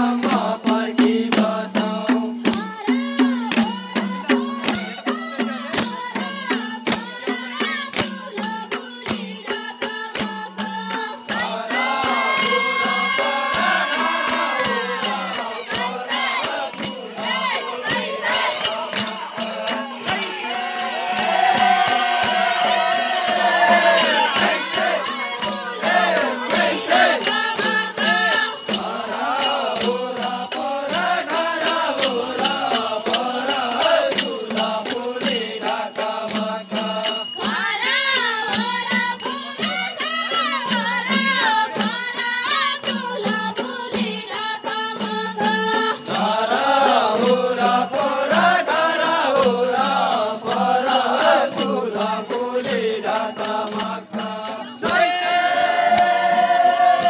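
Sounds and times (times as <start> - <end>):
jingling rattling percussion: 0.0 - 57.0
person singing folk song: 0.0 - 57.0.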